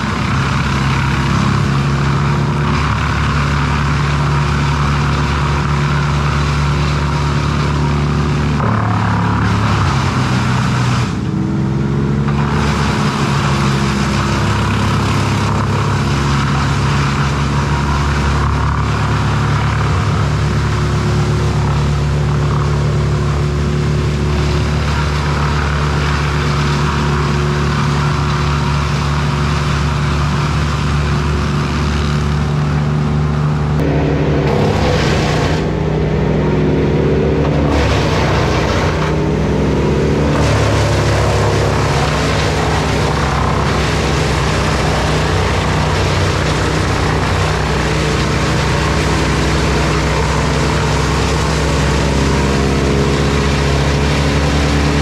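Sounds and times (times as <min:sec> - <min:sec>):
diesel engine drone: 0:00.0 - 0:55.0
wood chipper chipping wood: 0:00.0 - 0:55.0.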